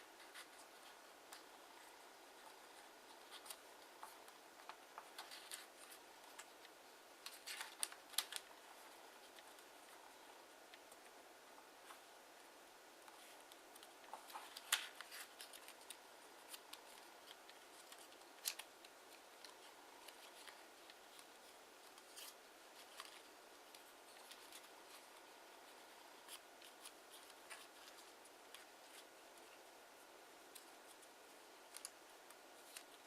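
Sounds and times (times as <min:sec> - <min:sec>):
quiet hiss: 0:00.0 - 0:33.0
paper crinkling and clicking: 0:00.2 - 0:10.0, 0:13.0 - 0:29.7, 0:30.4 - 0:33.0.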